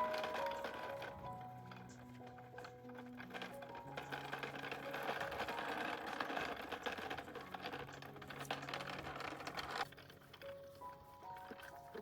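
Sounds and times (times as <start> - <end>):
mechanical rattling clatter: 0.0 - 12.0
soft background music: 0.0 - 12.0.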